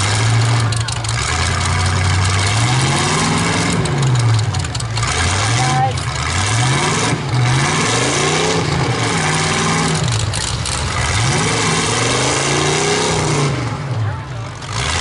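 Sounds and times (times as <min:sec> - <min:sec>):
truck engines revving hard: 0:00.0 - 0:15.0.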